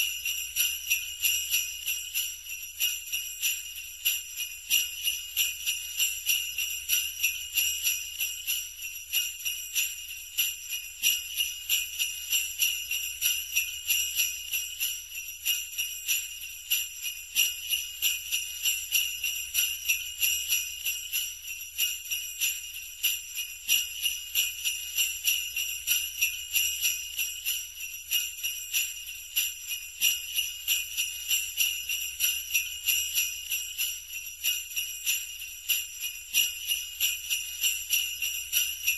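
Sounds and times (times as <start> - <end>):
jingle bells shaken: 0.0 - 38.9.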